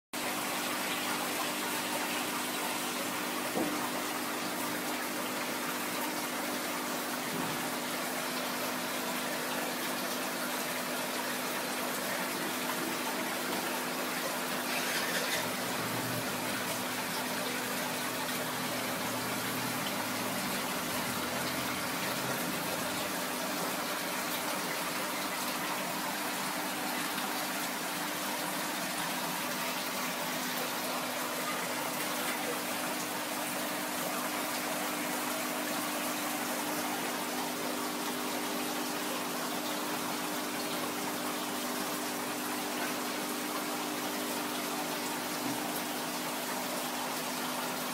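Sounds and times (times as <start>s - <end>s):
pumps humming: 0.2s - 47.9s
water rushing in aquarium: 0.2s - 47.9s.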